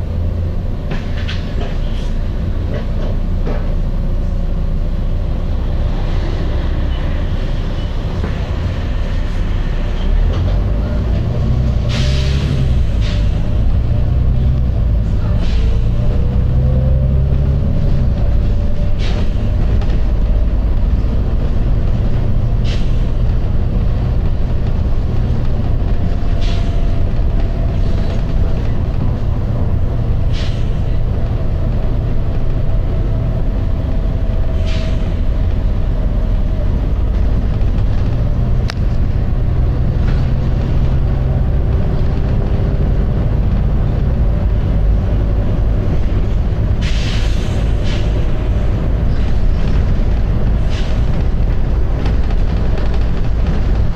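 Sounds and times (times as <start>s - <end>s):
bus engine and road rumble: 0.0s - 53.9s.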